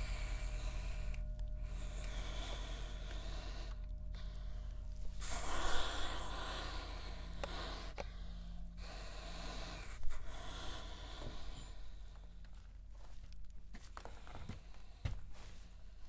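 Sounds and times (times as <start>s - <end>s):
slow heavy breathing: 0.0s - 16.0s
steady low hum: 0.0s - 16.0s.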